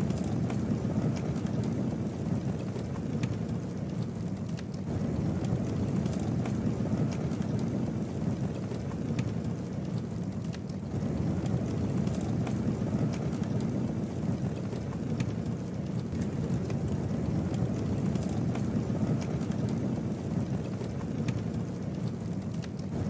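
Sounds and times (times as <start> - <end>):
campfire flames rumbling: 0.0 - 23.0
fire crackling and popping: 0.0 - 23.0.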